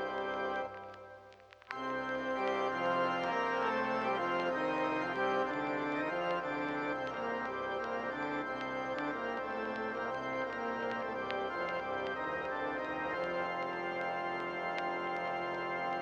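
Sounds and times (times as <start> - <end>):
organ chords: 0.0 - 16.0
light ticks: 0.5 - 16.0.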